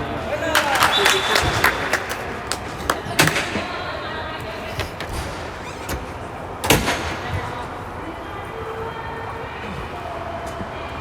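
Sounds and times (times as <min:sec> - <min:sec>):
indistinct voices: 0:00.0 - 0:11.0.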